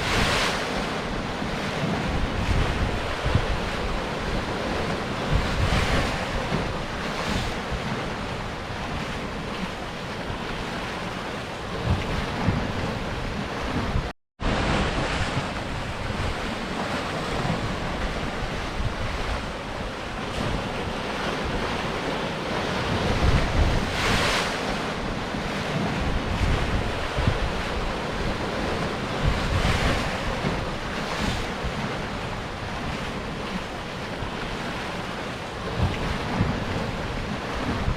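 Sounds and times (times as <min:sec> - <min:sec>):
waves breaking on rocks: 0:00.0 - 0:37.9.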